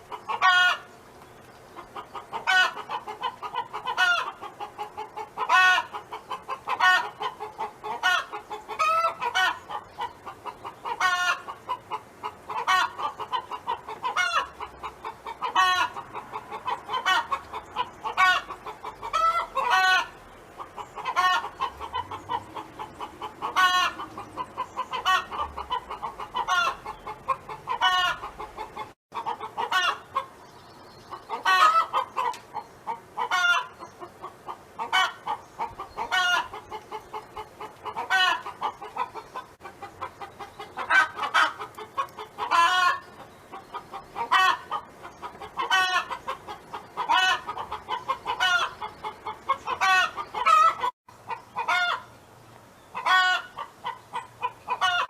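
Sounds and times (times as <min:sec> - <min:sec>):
hen clucking: 0:00.0 - 0:52.2, 0:52.9 - 0:55.0.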